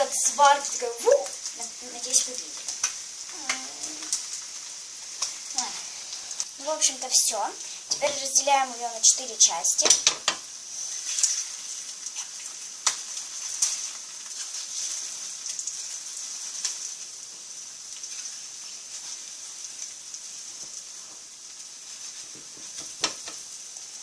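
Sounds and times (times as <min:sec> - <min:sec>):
egg sizzling in frying pan: 0:00.0 - 0:24.0.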